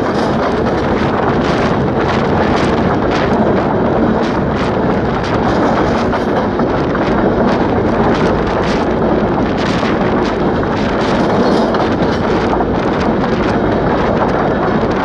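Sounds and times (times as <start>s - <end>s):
diesel locomotive engine din: 0.0s - 15.0s
wheels knocking over track: 0.0s - 15.0s
wind buffeting microphone: 0.0s - 15.0s.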